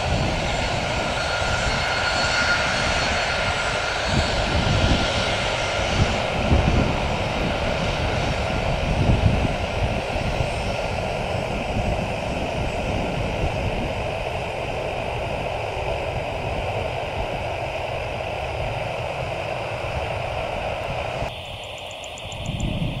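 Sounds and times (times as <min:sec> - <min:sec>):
jet engines whining at taxi: 0:00.0 - 0:23.0.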